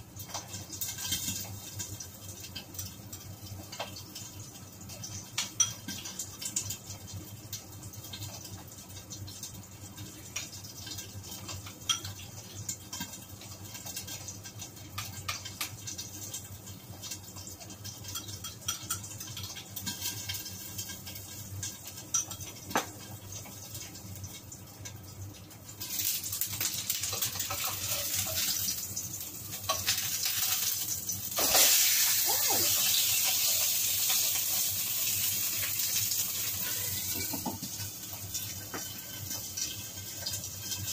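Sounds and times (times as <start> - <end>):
meat sizzling in fat: 0.0 - 40.9.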